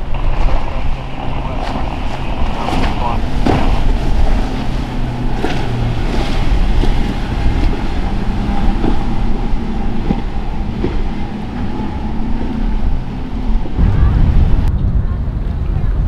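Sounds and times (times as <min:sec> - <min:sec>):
water spray rushing: 0:00.0 - 0:14.7
outboard engines droning: 0:00.0 - 0:16.0.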